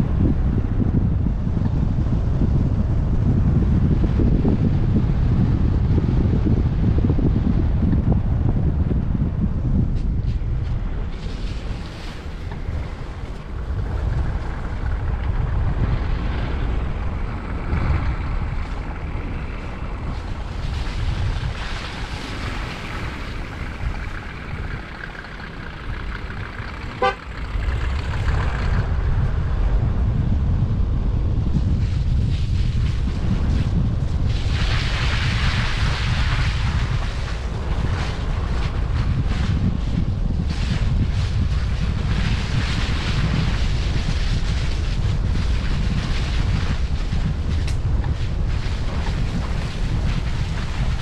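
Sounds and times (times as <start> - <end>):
car driving rumble: 0.0 - 51.0
wind noise on microphone: 0.0 - 51.0.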